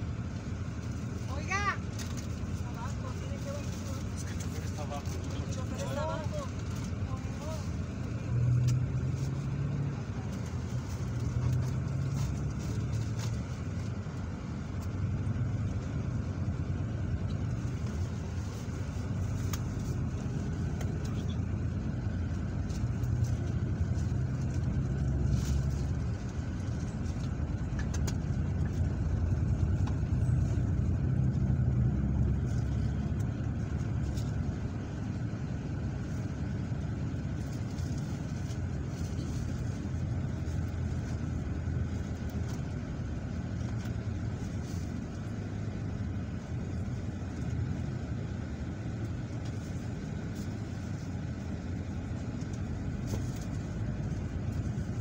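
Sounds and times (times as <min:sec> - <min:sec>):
vehicle road and engine rumble: 0:00.0 - 0:55.0.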